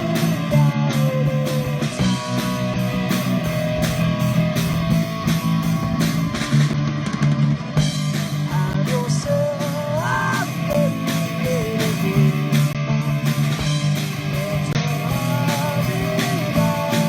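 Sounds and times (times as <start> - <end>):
bass guitar: 0.0 - 17.0
drum kit: 0.0 - 17.0
electric guitar lead: 0.0 - 17.0.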